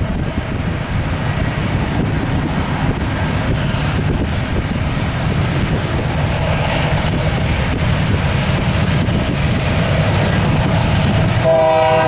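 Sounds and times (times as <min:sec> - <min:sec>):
diesel locomotives rumbling: 0:00.0 - 0:12.0
wind buffeting microphone: 0:00.0 - 0:12.0.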